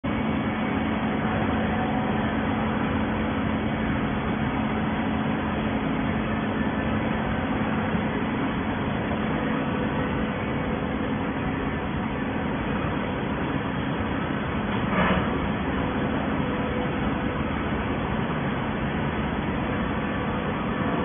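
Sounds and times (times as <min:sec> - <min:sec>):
baling press humming: 0:00.0 - 0:21.0.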